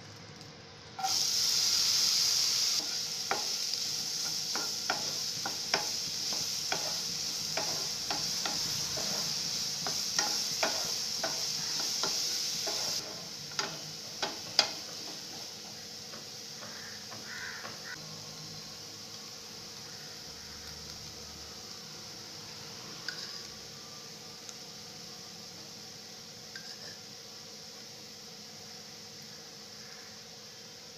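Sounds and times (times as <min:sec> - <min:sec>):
apple sizzling in butter: 0:01.0 - 0:30.9.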